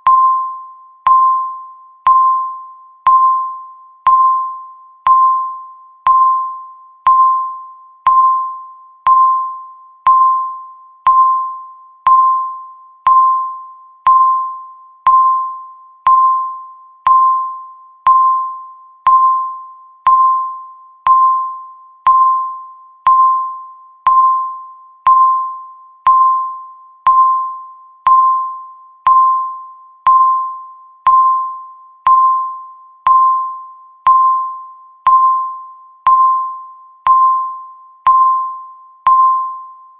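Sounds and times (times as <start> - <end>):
electronic timer ping: 0.0 - 39.9.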